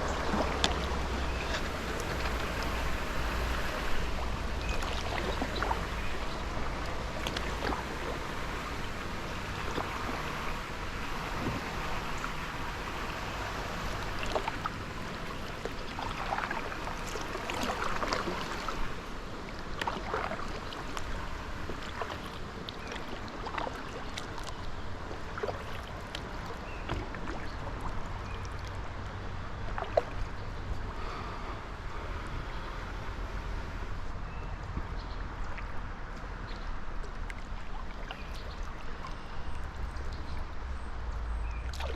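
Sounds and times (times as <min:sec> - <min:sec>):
paddle splashing water: 0:00.0 - 0:32.8, 0:35.4 - 0:40.8, 0:41.6 - 0:41.9
water wash: 0:00.0 - 0:34.0.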